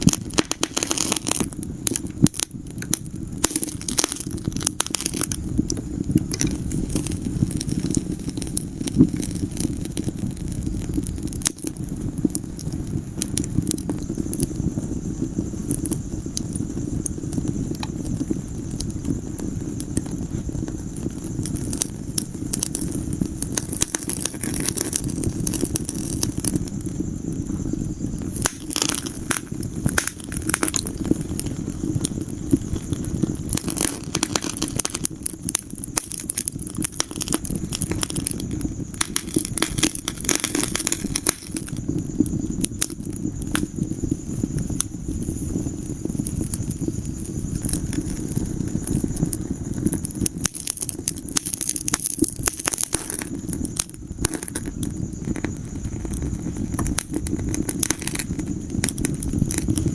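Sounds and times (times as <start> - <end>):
burning logs crackling and popping: 0.0 - 59.9
flame rushing: 0.0 - 59.9.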